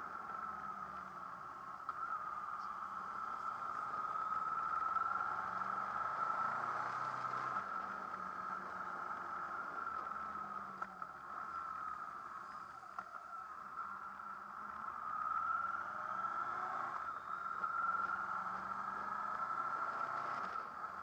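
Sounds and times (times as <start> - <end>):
motorcycle engine hum: 0.0 - 21.0
road noise: 0.0 - 21.0.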